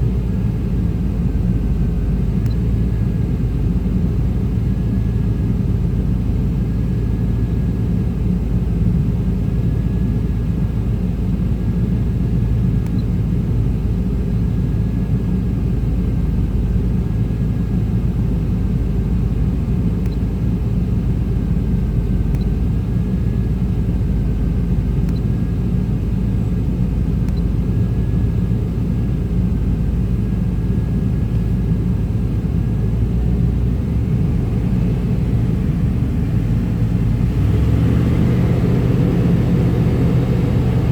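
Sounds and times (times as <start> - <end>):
engine idling with low rumble: 0.0 - 40.9.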